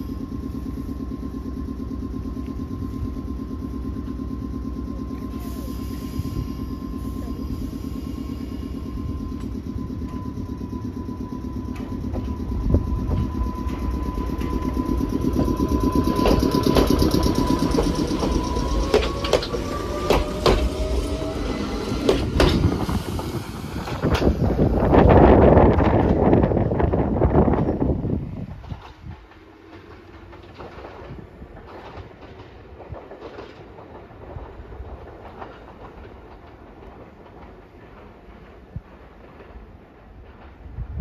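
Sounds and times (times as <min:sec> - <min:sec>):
electric train motor whine: 0:00.0 - 0:37.0
train low rumble: 0:00.0 - 0:41.0
train wheels clacking over rail joints: 0:04.0 - 0:27.8, 0:28.4 - 0:41.0.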